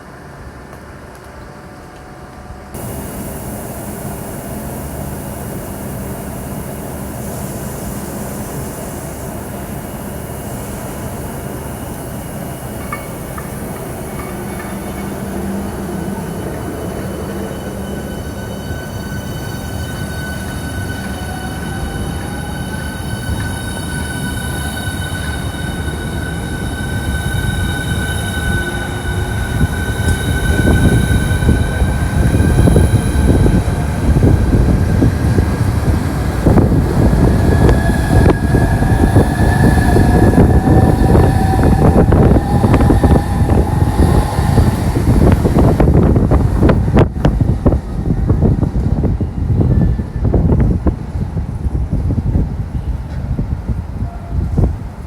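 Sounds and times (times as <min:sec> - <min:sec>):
electric train whine and rumble: 0:00.0 - 0:55.0.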